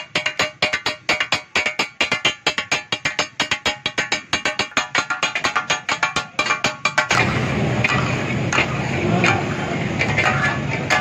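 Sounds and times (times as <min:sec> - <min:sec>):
cleavers chopping on iron griddle: 0:00.0 - 0:11.0.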